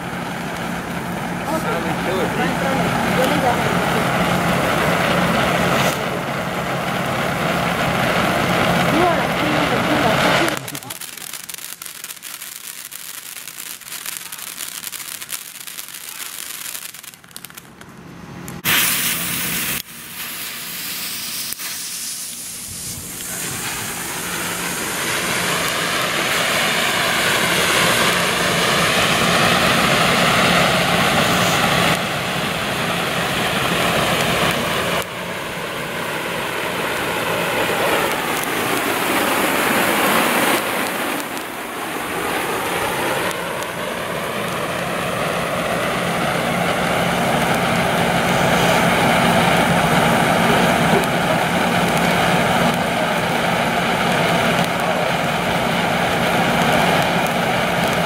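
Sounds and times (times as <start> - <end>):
firework blast: 0.0 - 58.0
firework fountains hissing: 0.0 - 58.0.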